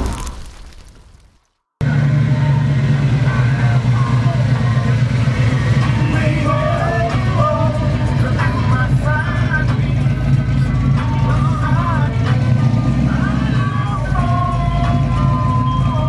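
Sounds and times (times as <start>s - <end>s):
pickup truck engine drone: 1.8s - 16.0s
music: 2.4s - 16.0s
voices: 3.1s - 16.0s.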